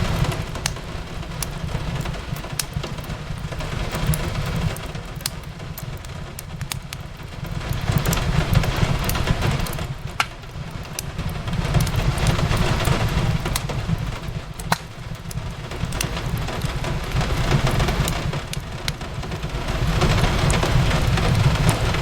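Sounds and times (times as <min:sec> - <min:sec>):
rain hissing: 0:00.0 - 0:22.0
wood fire crackling: 0:00.0 - 0:22.0.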